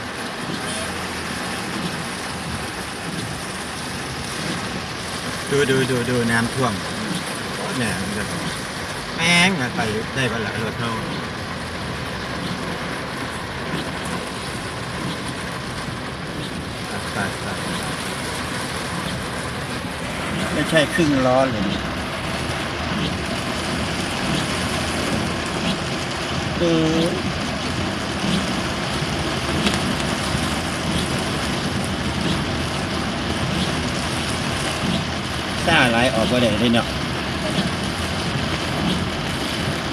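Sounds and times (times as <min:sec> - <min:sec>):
heavy rain: 0:00.0 - 0:39.9
vehicle driving through floodwater: 0:00.0 - 0:39.9.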